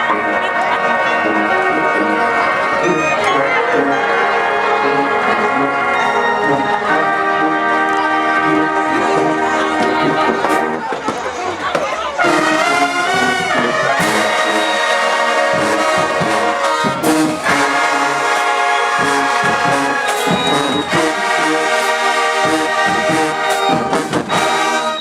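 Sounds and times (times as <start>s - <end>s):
brass band playing: 0.0s - 11.3s, 12.1s - 25.0s.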